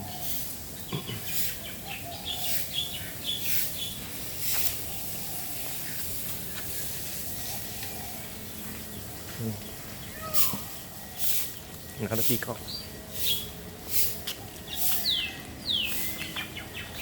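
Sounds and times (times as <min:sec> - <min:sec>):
background hiss: 0:00.0 - 0:17.0
small birds chirping: 0:00.0 - 0:17.0.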